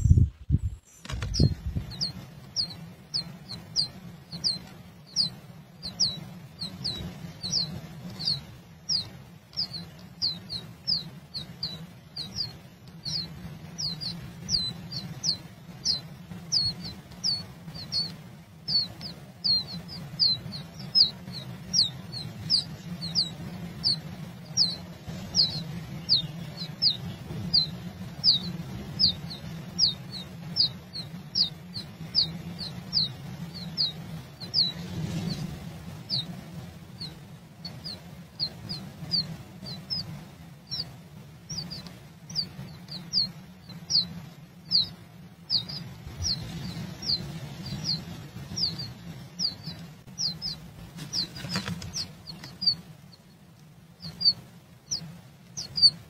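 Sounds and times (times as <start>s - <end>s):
bird chirping: 0.0s - 56.0s
low steady hum: 0.0s - 56.0s.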